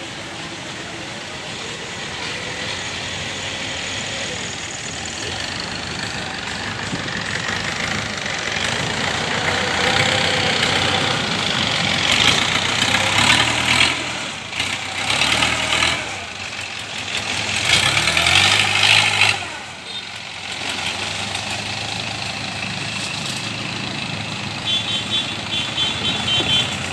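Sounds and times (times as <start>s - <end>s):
combine harvester diesel engine: 0.0s - 26.9s.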